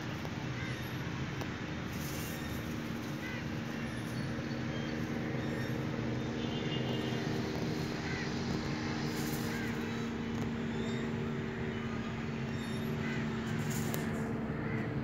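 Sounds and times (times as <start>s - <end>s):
engine hum with low tones: 0.0s - 15.0s.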